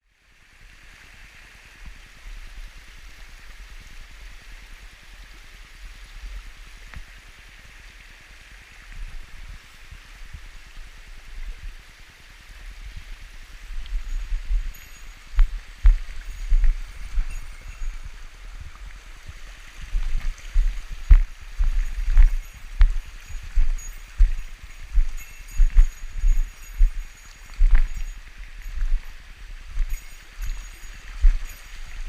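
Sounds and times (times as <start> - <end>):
stream rushing over rocks: 0.1 - 32.0.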